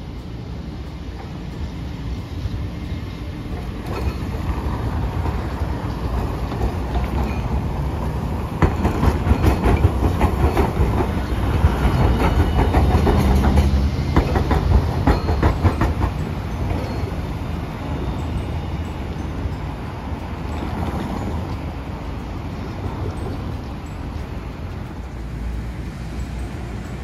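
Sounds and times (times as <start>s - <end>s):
low rumble of tram: 0.0s - 27.0s
road traffic: 0.0s - 27.0s
tram wheels clacking over rail joints: 0.0s - 27.0s.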